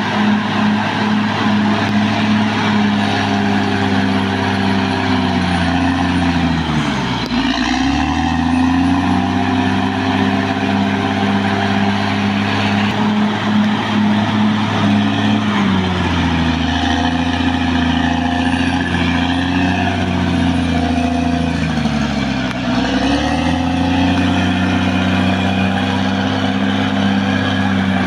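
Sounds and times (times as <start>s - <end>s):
bulldozer diesel engine: 0.0s - 28.0s.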